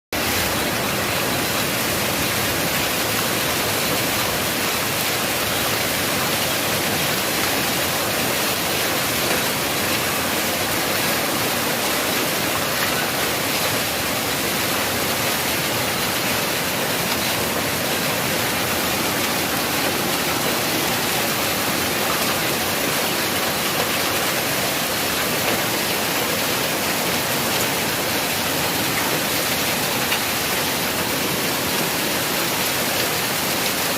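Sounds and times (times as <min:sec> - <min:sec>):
rain and hail pelting down: 0:00.2 - 0:33.9.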